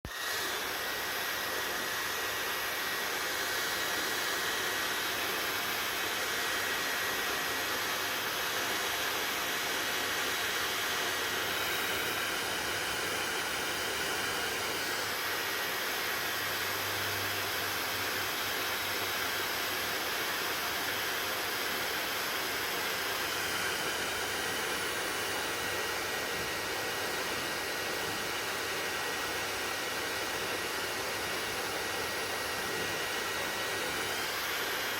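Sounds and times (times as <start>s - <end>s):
hair dryer blowing air: 0.0s - 34.9s.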